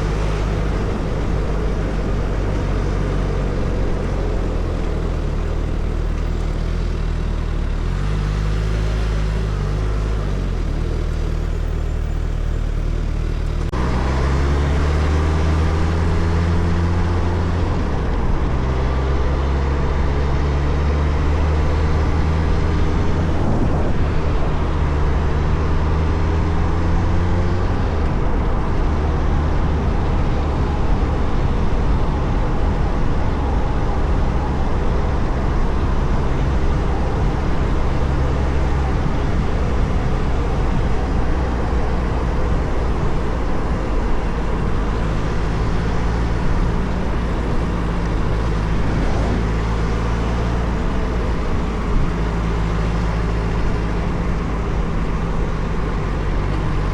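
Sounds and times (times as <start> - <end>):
motorcycle engine running: 0.0 - 56.9
wind and road rush: 0.0 - 56.9.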